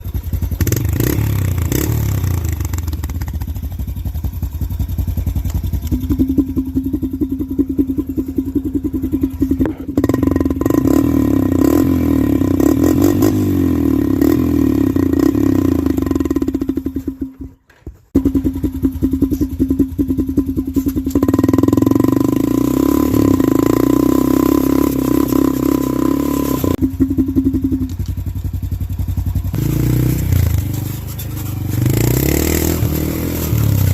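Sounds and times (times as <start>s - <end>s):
quad engine revving: 0.0s - 17.3s, 18.2s - 33.9s.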